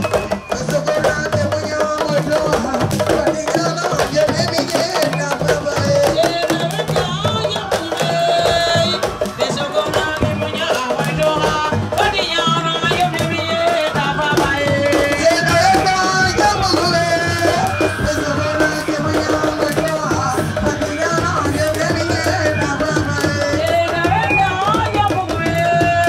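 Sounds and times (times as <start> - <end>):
fast hand drumming: 0.0 - 26.0
person singing: 0.0 - 26.0.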